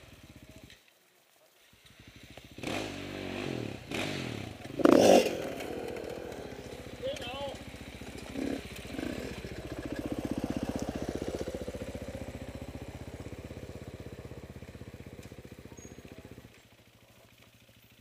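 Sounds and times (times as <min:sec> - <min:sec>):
motorcycle engine pulsing: 0:01.9 - 0:18.0.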